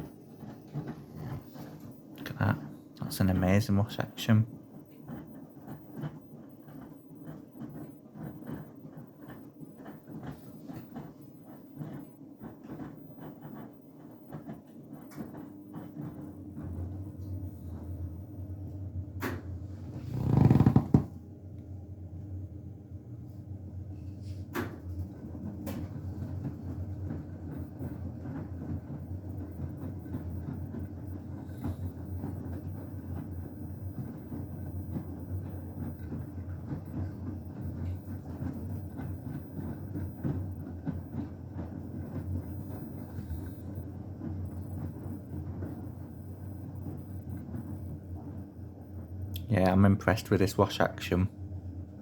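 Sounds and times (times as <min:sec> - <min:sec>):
washing machine motor hum: 0:00.0 - 0:52.0.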